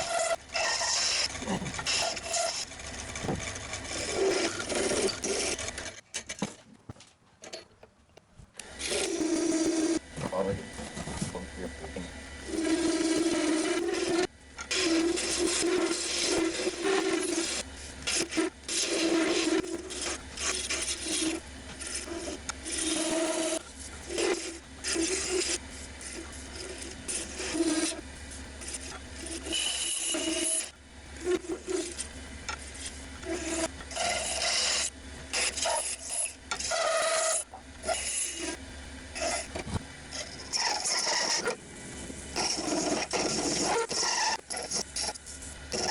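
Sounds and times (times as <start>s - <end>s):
lathe tool scraping wood: 0.0s - 6.4s, 8.6s - 45.9s.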